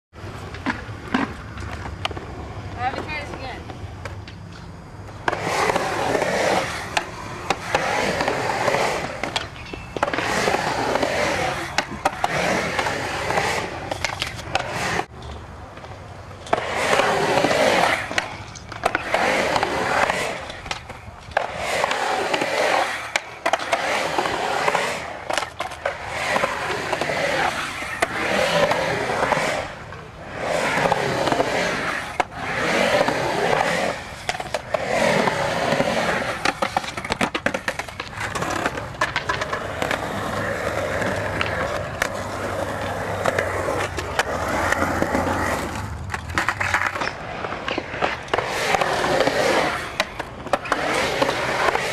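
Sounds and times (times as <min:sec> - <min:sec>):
skateboard wheels rolling on concrete: 0:00.1 - 0:51.9
skateboard clacks: 0:00.2 - 0:51.9.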